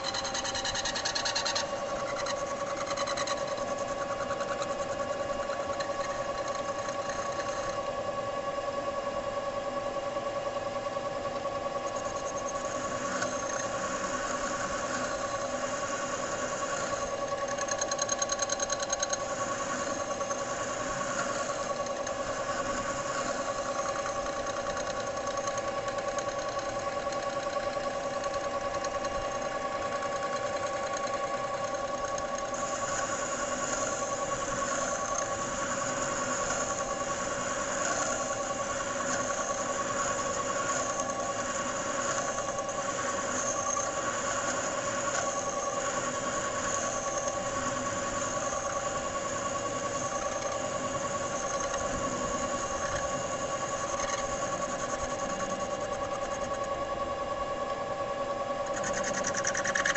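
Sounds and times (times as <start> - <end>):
metal lathe motor humming: 0.0 - 59.9.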